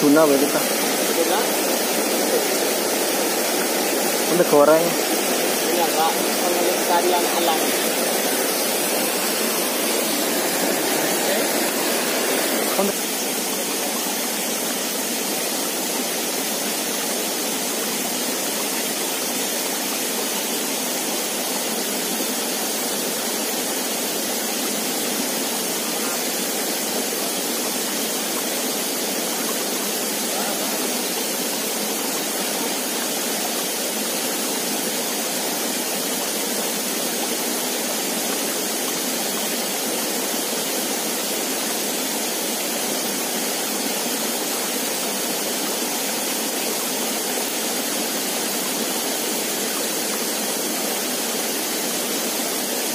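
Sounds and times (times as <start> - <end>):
water pouring over waterfall: 0.0 - 52.9.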